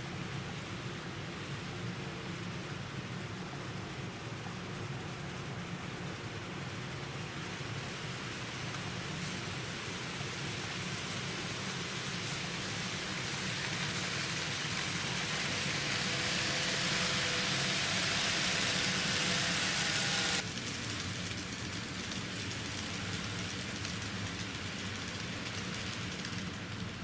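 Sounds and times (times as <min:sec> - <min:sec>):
faint motor whine: 0:00.0 - 0:27.0
model train wheels rumbling on rails: 0:00.0 - 0:27.0.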